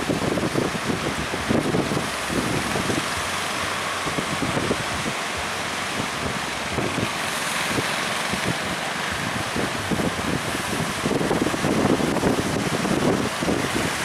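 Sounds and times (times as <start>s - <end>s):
rush of surf: 0.0s - 14.0s
wind buffeting microphone: 0.0s - 14.0s.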